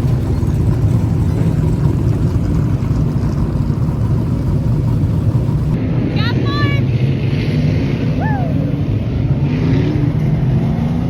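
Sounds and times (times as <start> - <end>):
race car engines rumbling: 0.0 - 11.0.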